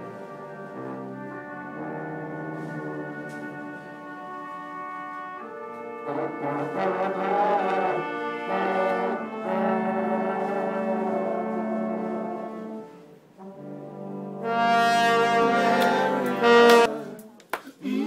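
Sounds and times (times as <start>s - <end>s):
brass band playing: 0.0s - 17.2s
trombone holding long notes: 0.0s - 17.2s.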